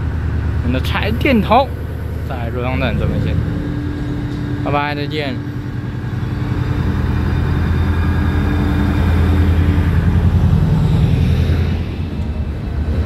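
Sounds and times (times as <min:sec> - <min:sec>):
diesel locomotive engines droning: 0:00.0 - 0:13.0
steady higher tone: 0:01.2 - 0:12.9.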